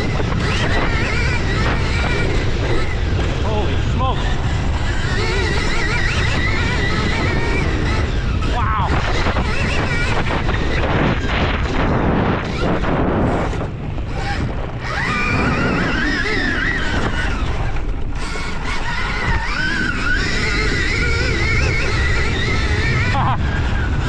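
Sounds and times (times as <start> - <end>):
electric dirt bike motor whine: 0.0 - 24.0
wind buffeting on microphone: 0.0 - 24.0.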